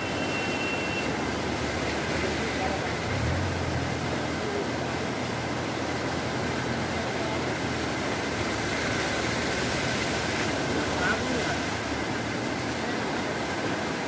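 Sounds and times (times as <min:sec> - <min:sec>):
rushing river water: 0:00.0 - 0:14.0.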